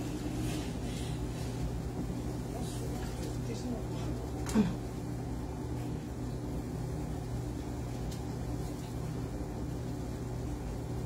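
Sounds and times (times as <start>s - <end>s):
vibration machine motor hum: 0.0s - 11.0s.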